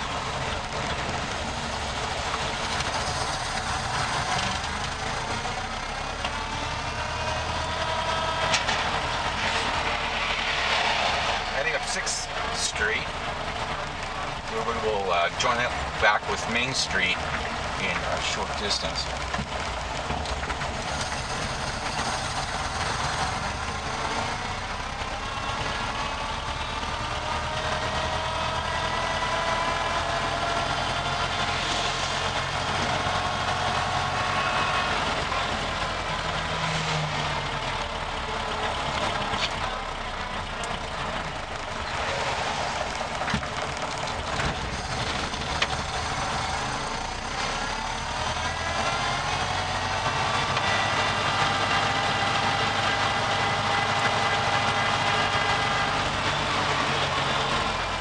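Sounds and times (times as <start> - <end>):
truck engine running while driving: 0.0 - 58.0.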